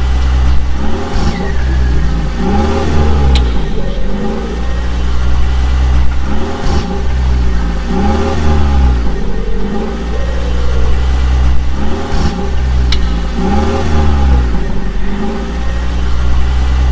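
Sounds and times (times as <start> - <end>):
engine revving up and down: 0.0 - 16.9
steady deep drone: 0.0 - 16.9.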